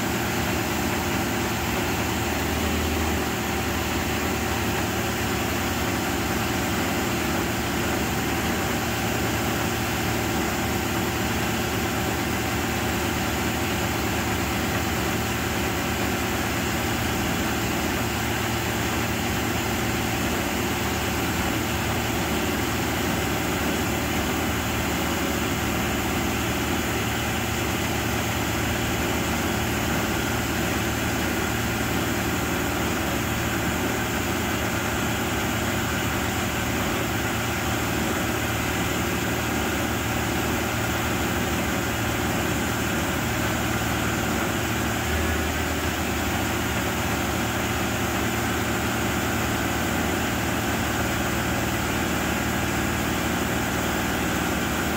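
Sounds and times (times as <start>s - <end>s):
boom lift engine running: 0.0s - 54.9s.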